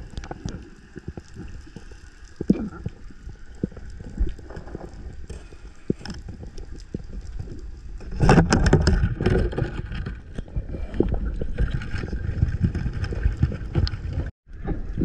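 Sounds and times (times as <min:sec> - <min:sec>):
muffled underwater rumble: 0:00.0 - 0:15.0
underwater rushing and knocking: 0:00.0 - 0:15.0
underwater clicks and knocks: 0:00.1 - 0:15.0.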